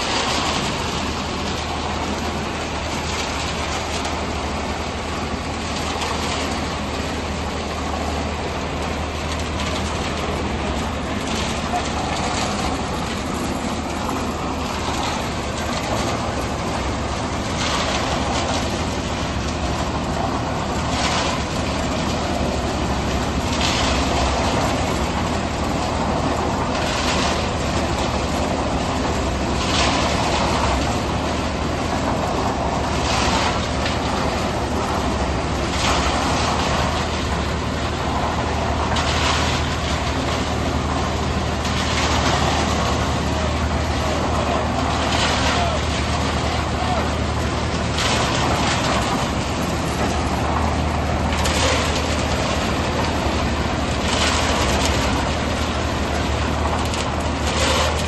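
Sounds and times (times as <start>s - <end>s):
concrete mixer rasping rush: 0.0s - 58.0s
low engine hum: 0.0s - 58.0s.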